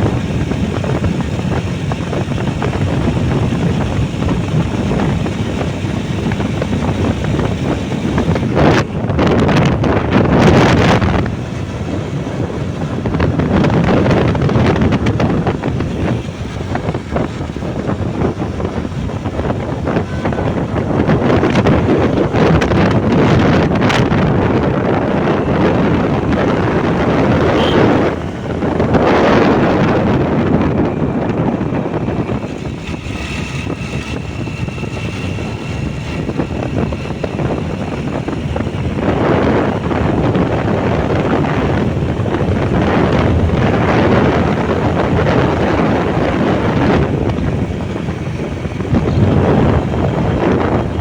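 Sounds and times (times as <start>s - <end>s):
motorbike engine running: 0.0s - 51.0s
wind buffeting microphone: 0.0s - 51.0s.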